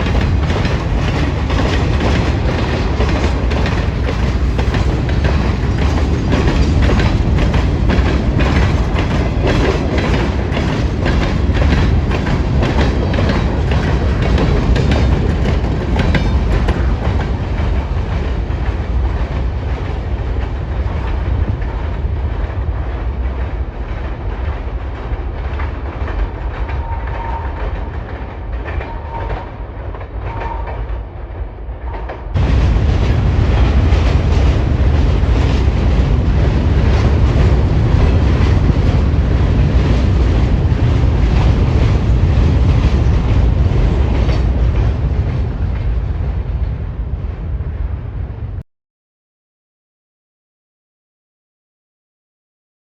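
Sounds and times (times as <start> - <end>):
train wheel clatter: 0.0 - 31.1, 31.8 - 47.7
train rumbling on rails: 0.0 - 48.6.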